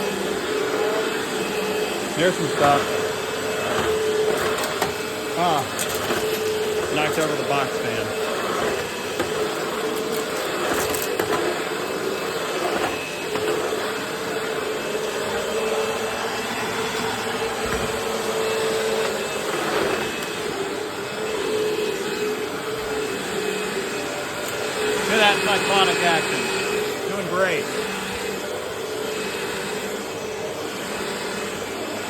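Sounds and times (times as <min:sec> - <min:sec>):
vacuum cleaner motor whine: 0:00.0 - 0:32.0.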